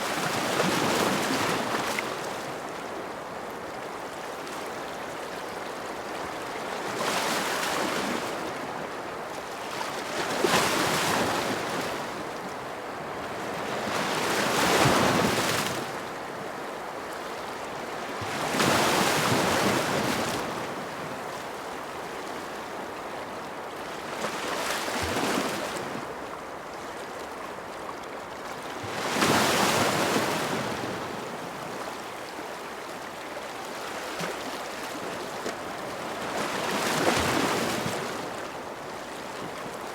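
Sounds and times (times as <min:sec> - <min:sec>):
ocean waves breaking on shore: 0:06.3 - 0:39.9.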